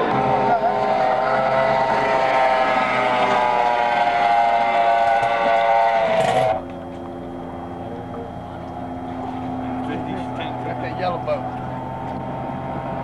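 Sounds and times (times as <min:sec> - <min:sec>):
low engine note: 0:00.0 - 0:13.0
outboard engine whining: 0:00.0 - 0:13.0.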